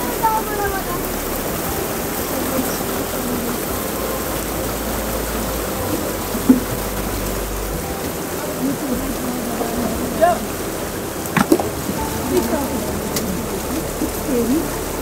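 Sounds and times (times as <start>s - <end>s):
rushing mountain stream: 0.0s - 15.0s.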